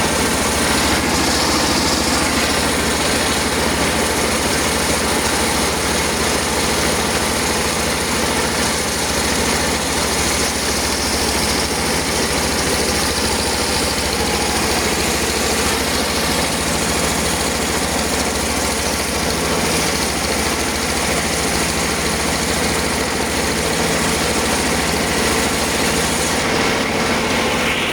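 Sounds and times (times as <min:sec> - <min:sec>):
sawmill machine droning: 0:00.0 - 0:27.9.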